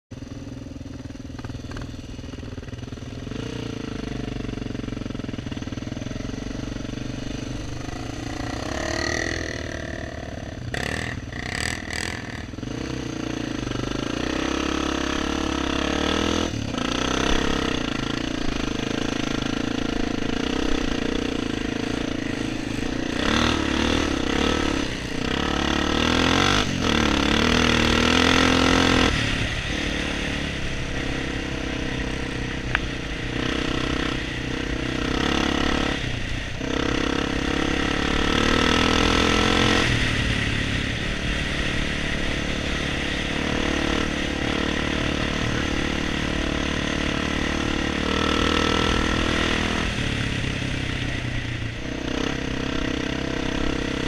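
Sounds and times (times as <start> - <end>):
motorcycle engine revving: 0.1 - 54.0.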